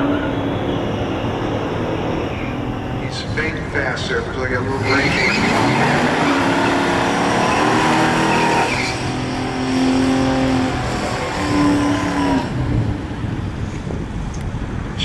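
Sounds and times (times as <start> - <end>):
car engines accelerating: 0.0 - 15.0.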